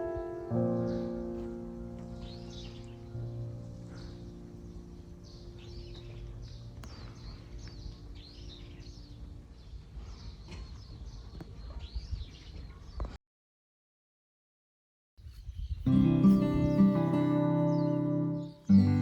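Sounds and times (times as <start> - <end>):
small birds chirping and singing: 0.0 - 13.2, 15.2 - 19.0.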